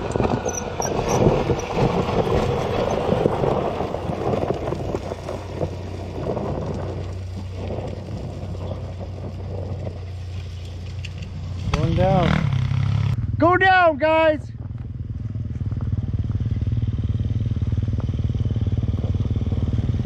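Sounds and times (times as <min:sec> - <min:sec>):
off-road bike engines running: 0:00.0 - 0:20.0.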